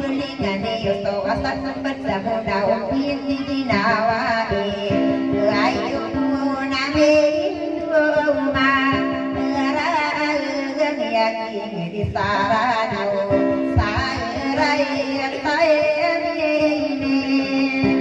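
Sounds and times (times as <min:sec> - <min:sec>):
instrumental backing with beat: 0:00.0 - 0:18.0.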